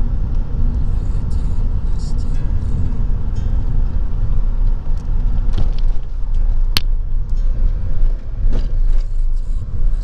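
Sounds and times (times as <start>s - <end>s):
low rumble of car driving: 0.0s - 10.0s.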